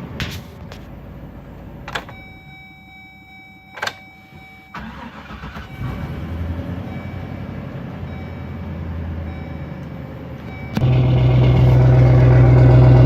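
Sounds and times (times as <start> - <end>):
bus engine starting and running: 0.0 - 13.0.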